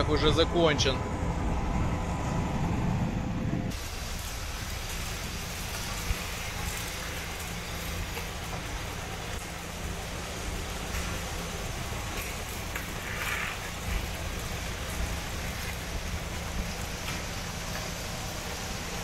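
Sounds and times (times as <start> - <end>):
heavy vehicle engine running: 0.0 - 19.0
wind hiss on microphone: 1.6 - 19.0.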